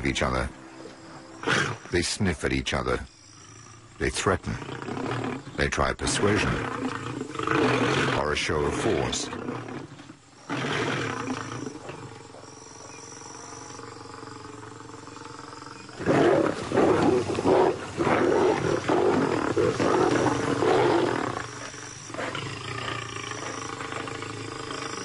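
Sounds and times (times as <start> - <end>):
lions growling: 1.4 - 25.0.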